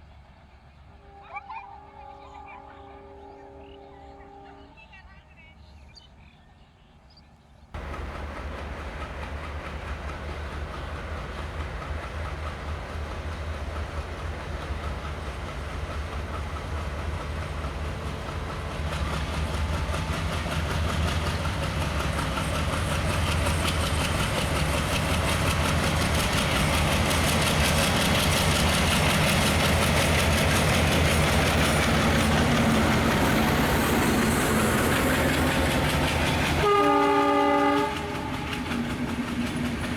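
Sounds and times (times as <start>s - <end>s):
diesel locomotive engine hum: 0.0s - 39.9s
train wheels rumbling on rails: 7.8s - 39.9s.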